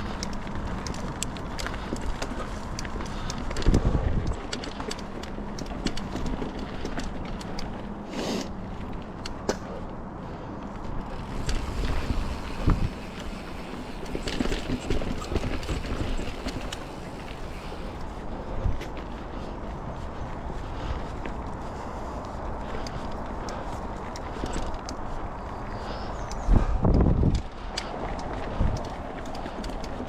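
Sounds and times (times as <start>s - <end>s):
wind over microphone: 0.0s - 8.0s, 10.3s - 30.0s
bike clicking and rattling: 0.0s - 30.0s
bike tyres on dirt trail: 0.0s - 30.0s.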